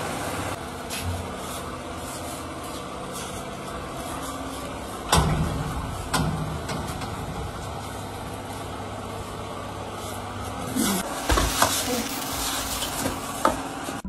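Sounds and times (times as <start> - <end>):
engine-like hum: 0.0 - 14.0.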